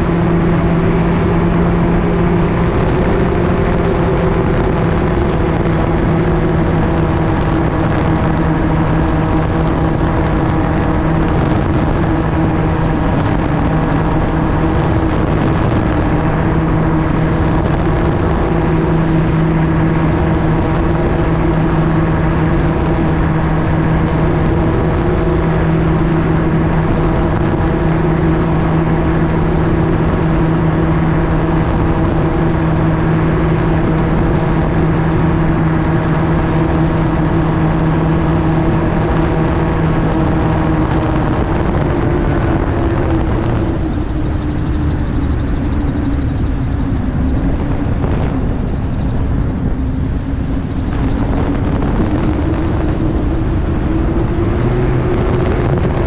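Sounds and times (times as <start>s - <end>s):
propeller engine humming: 0.0s - 56.0s
wind rush: 0.0s - 56.0s.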